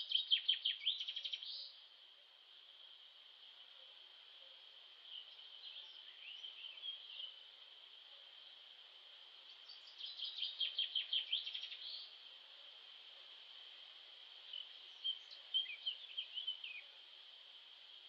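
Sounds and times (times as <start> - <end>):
songbird chirps and trills: 0.0 - 18.0.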